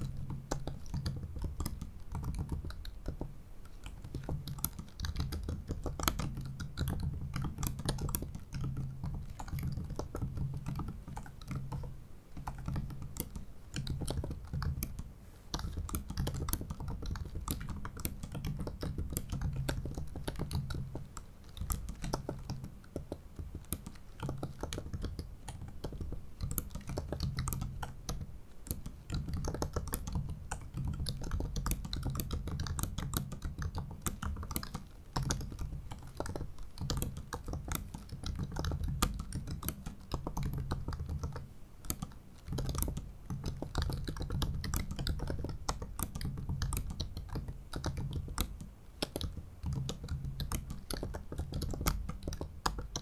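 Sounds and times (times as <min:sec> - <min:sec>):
laptop keyboard typing: 0:00.0 - 0:53.0.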